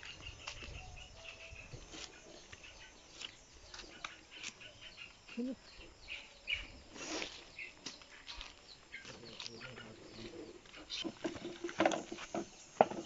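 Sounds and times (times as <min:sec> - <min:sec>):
birds chirping: 0:00.0 - 0:13.0
low steady bird call: 0:00.0 - 0:13.0.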